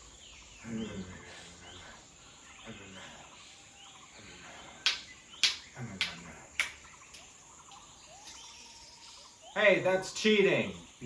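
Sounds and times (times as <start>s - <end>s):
faint chirping: 0.0s - 11.0s.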